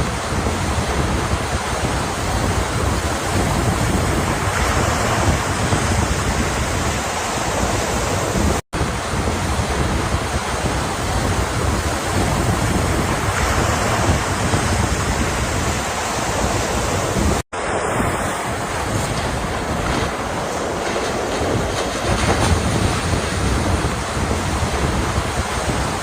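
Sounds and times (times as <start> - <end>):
ocean surf washing: 0.0 - 26.0
wind buffeting microphone: 0.0 - 26.0.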